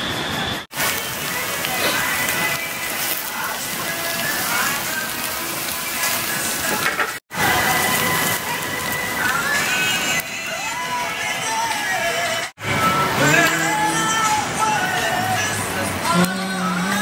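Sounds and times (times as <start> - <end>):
seafood sizzling on charcoal grill: 0.7 - 17.0.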